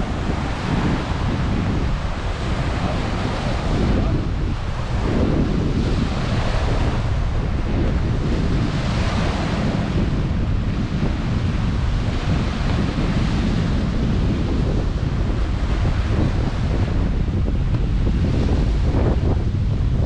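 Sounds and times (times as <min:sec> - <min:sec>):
waves breaking on shore: 0:00.0 - 0:20.0
wind buffeting microphone: 0:00.0 - 0:20.0.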